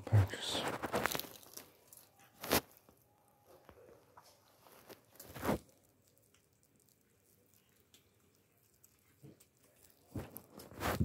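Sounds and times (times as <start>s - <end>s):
cats chewing food: 0.6s - 3.0s, 3.7s - 11.0s.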